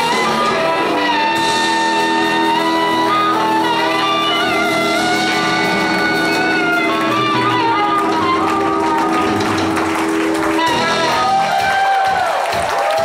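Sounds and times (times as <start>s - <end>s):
harmonica bending notes: 0.0s - 11.7s
live rock band: 0.0s - 13.0s.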